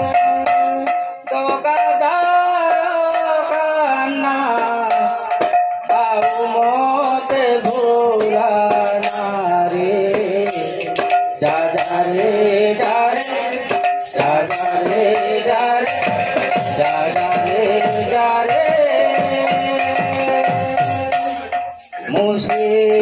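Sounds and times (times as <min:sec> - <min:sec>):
devotional singing: 0:00.0 - 0:23.0
hand-played barrel drum: 0:00.0 - 0:23.0.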